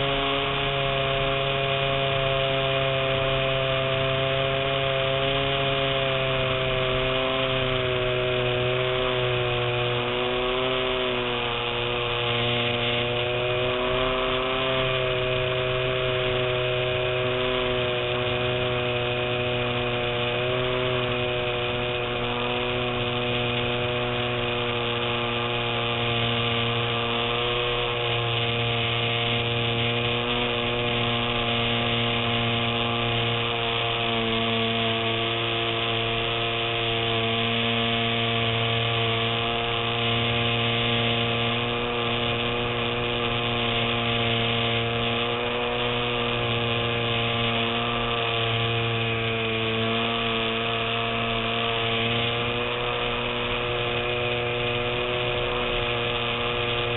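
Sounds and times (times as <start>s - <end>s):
electric motor and propeller whine: 0.0s - 56.9s.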